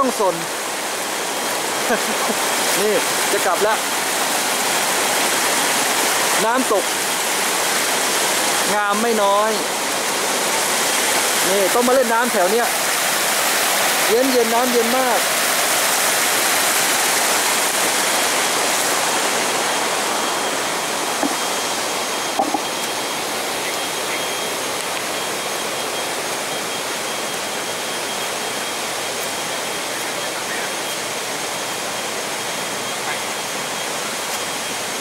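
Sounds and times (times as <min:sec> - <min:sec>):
waterfall rushing over rock: 0:00.0 - 0:35.0.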